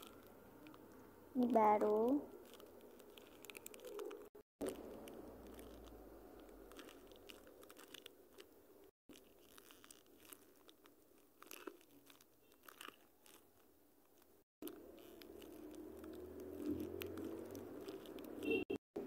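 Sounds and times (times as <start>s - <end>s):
paper squishies crinkling and clicking: 0.0s - 18.8s.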